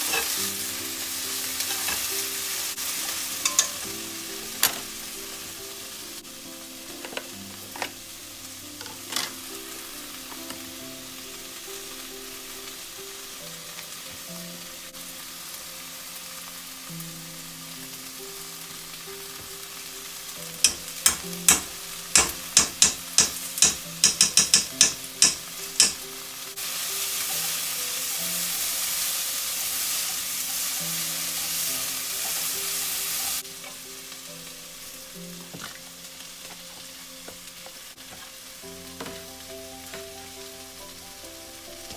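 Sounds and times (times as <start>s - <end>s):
loud steady hiss: 0.0s - 41.9s
soft background music: 0.0s - 41.9s.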